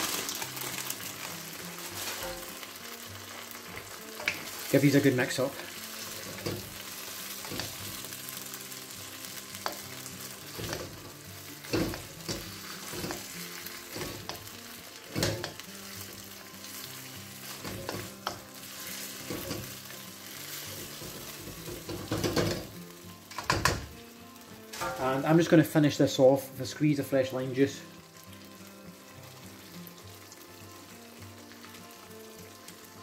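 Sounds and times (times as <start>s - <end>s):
chicken wings sizzling in wok: 0.0s - 33.0s.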